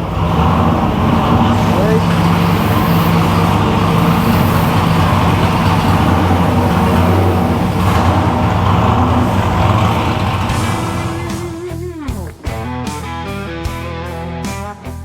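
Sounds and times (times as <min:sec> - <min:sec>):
truck engine running loud: 0:00.0 - 0:15.0.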